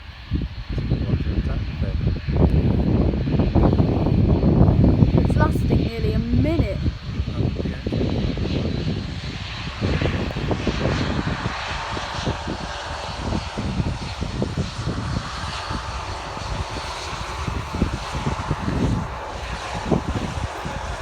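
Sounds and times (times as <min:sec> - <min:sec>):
jet engines running: 0:00.0 - 0:21.0
wind on microphone: 0:00.0 - 0:21.0.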